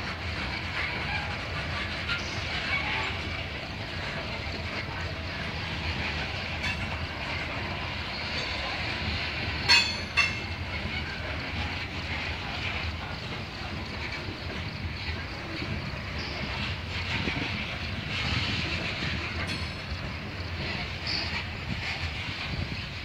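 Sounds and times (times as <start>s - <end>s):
train cars rumbling on rails: 0.0s - 23.0s.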